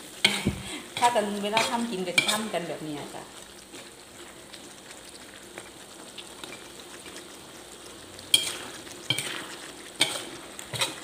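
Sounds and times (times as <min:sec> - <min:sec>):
soft frying: 0:00.0 - 0:11.0
spatula scraping wok: 0:00.0 - 0:11.0.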